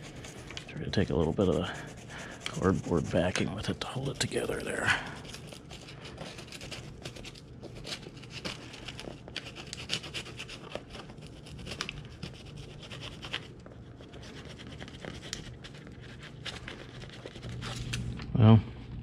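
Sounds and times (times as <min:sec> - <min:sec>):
paper scraping and tearing: 0:00.0 - 0:18.1.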